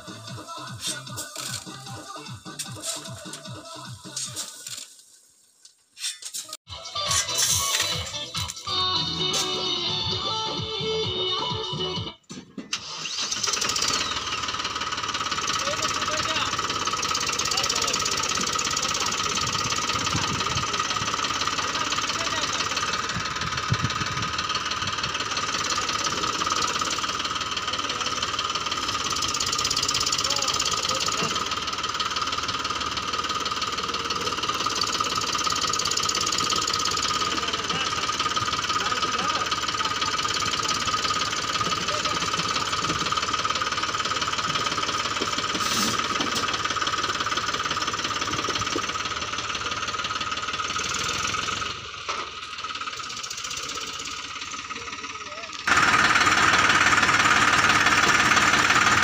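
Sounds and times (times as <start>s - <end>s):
tractor diesel engine knocking: 0.0s - 4.4s, 8.0s - 59.0s.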